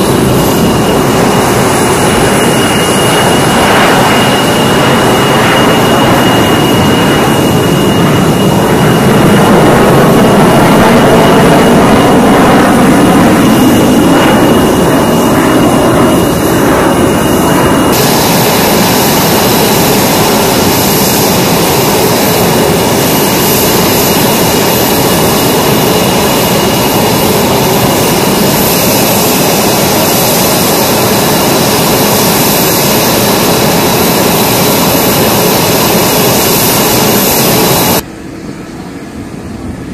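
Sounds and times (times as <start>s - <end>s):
jets passing overhead: 0.0s - 39.9s
steady jet engine whine: 0.0s - 39.9s.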